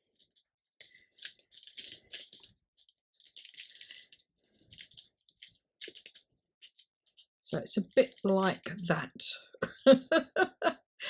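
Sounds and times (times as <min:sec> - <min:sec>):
paper rustling and crinkling: 0:00.0 - 0:08.9.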